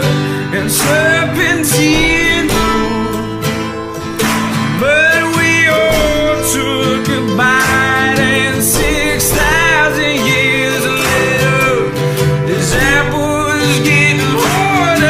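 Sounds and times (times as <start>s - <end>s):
guitar and band accompaniment: 0.0s - 15.0s.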